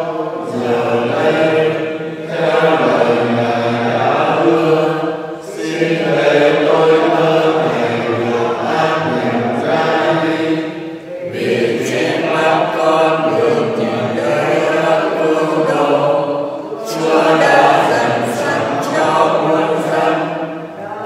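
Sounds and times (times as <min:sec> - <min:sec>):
slow chant-like hymn singing: 0:00.0 - 0:21.0.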